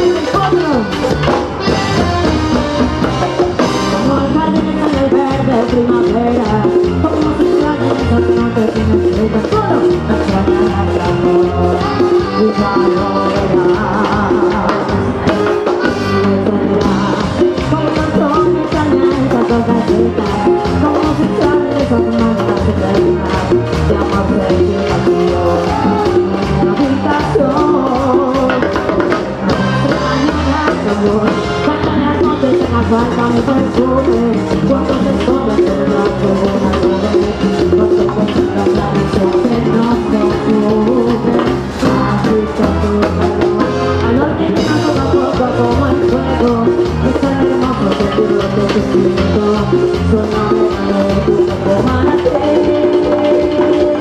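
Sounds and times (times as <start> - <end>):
live band playing latin dance music: 0.0 - 54.0.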